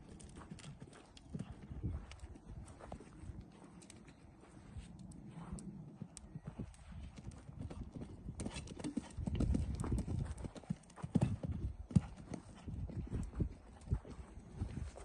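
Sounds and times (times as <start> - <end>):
horse hooves cantering on sand: 0.0 - 15.0.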